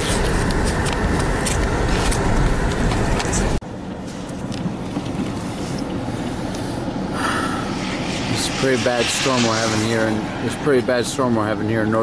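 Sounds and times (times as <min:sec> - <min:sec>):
car driving on snowy road rumble: 0:00.0 - 0:12.0
engine and road hum: 0:00.0 - 0:12.0.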